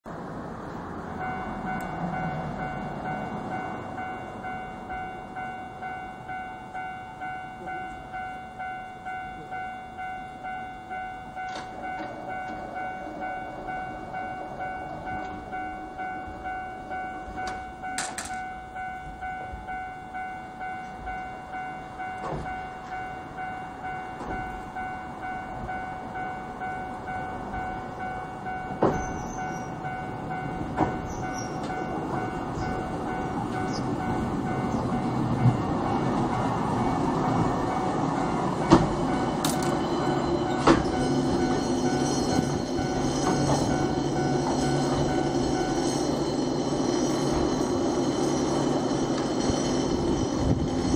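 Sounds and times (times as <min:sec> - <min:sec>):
crossing warning bell ringing: 0:00.6 - 0:50.9.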